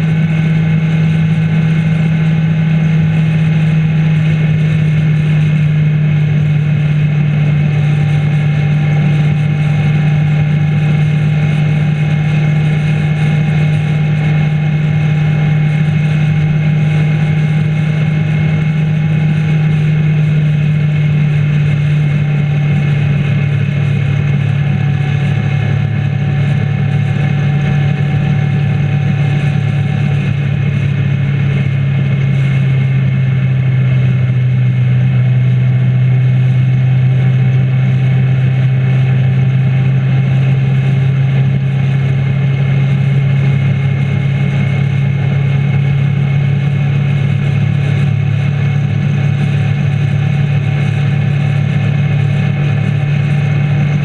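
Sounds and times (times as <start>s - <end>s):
constant rushing noise: 0.0s - 54.0s
motorcycle engine running: 0.0s - 54.0s.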